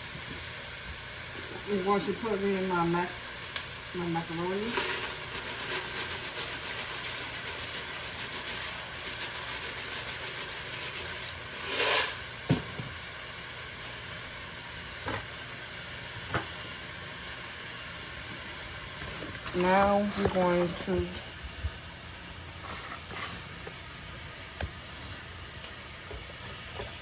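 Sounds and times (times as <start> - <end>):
food sizzling: 0.0 - 27.0.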